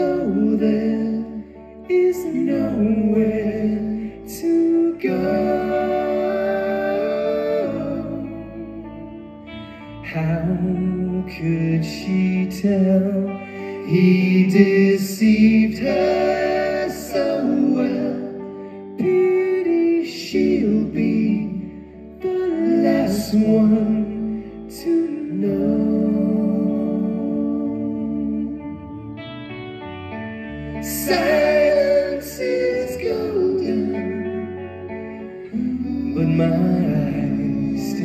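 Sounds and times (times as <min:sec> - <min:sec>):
men singing in harmony: 0:00.0 - 0:08.8, 0:10.1 - 0:28.6, 0:30.8 - 0:38.0
bass guitar: 0:00.0 - 0:38.0
electric guitar: 0:00.0 - 0:38.0.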